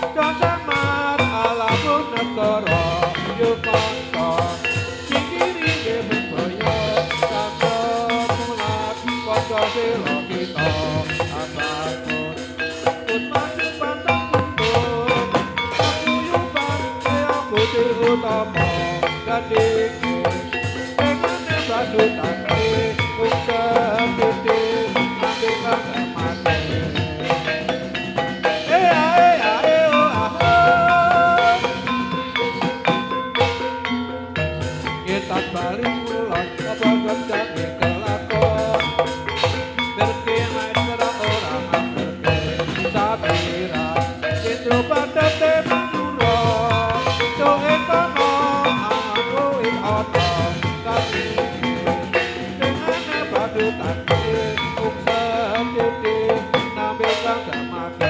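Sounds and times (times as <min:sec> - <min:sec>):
drums: 0:00.0 - 0:58.0
metal keyed instruments ringing: 0:00.0 - 0:58.0.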